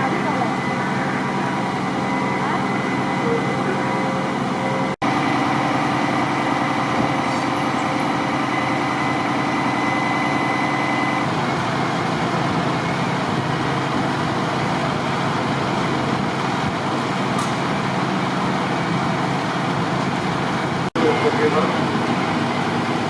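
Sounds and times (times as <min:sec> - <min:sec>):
fire truck engine drone: 0:00.0 - 0:23.0.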